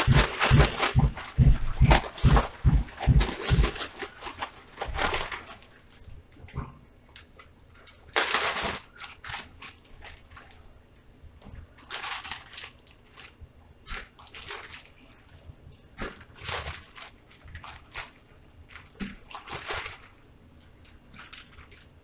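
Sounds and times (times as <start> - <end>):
plastic bag crinkling and rustling: 0.0 - 10.8, 11.5 - 22.0.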